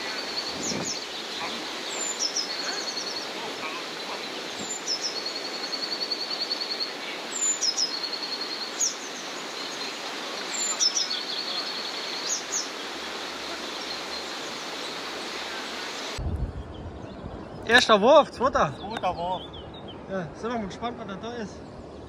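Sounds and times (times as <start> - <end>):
rushing outdoor background noise: 0.0 - 22.0
songbirds chirping and trilling: 0.0 - 22.0.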